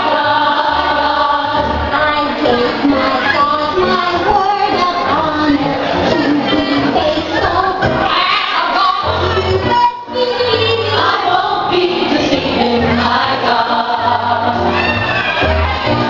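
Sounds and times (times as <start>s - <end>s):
choir singing gospel song: 0.0s - 16.0s.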